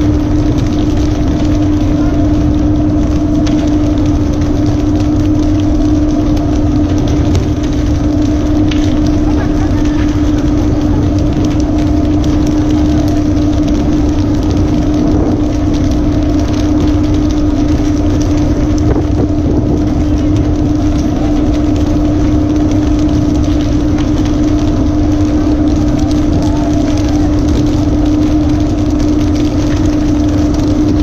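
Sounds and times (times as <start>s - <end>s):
boat engine humming: 0.0s - 31.0s
continuous rushing noise: 0.0s - 31.0s.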